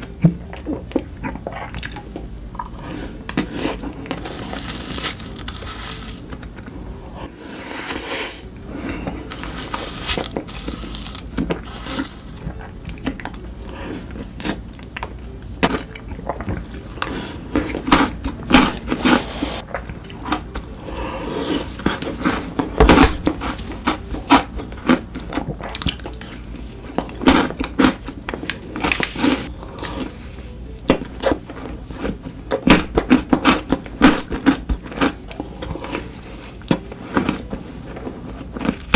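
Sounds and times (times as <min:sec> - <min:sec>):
chocolate crunching and chewing: 0:00.0 - 0:38.9
steady low hum: 0:00.0 - 0:38.9.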